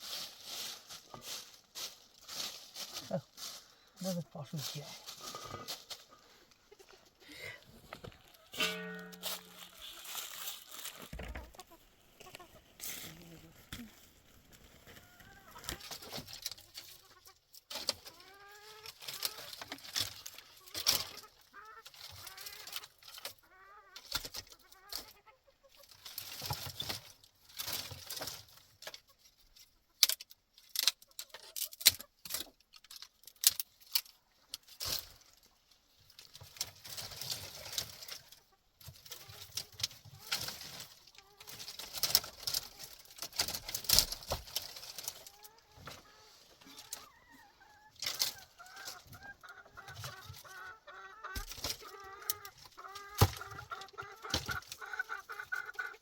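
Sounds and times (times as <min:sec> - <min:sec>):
scraping and rustling: 0:00.0 - 0:07.1, 0:07.8 - 0:23.4, 0:25.7 - 0:50.7
chickens clucking: 0:00.0 - 0:56.0.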